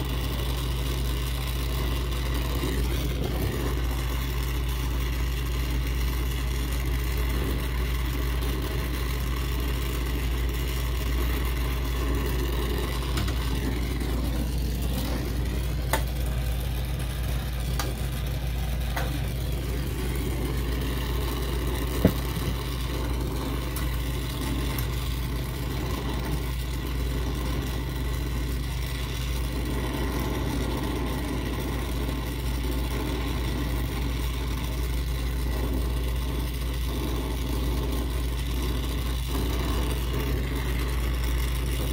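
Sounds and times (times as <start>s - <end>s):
torch flame rushing: 0.0s - 41.9s.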